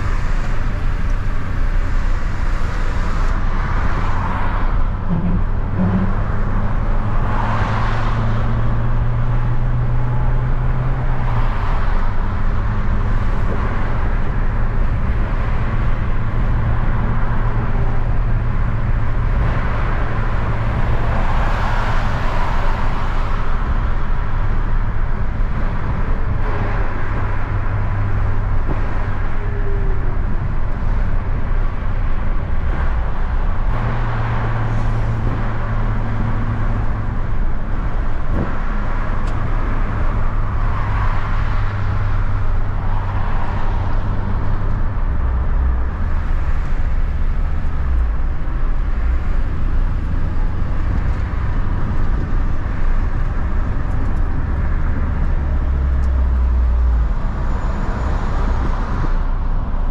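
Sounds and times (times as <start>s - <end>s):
road noise: 0.0s - 59.9s
van engine drone: 0.0s - 59.9s.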